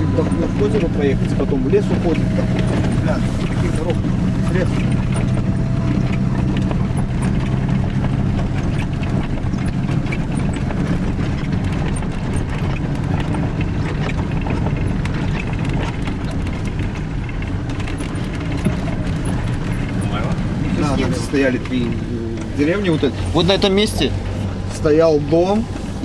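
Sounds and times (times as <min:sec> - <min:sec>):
small rattles and knocks: 0:00.0 - 0:26.0
vehicle engine and road noise: 0:00.0 - 0:26.0.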